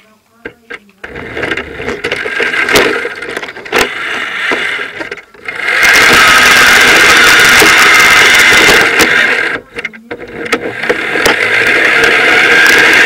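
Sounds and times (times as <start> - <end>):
chassis rattling and scraping: 0.4 - 13.0
motor and drivetrain whine: 0.4 - 13.0.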